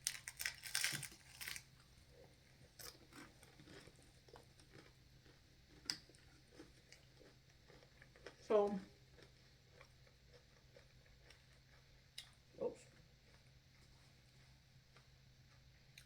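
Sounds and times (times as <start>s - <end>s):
crunchy food chewing: 0.0s - 16.0s.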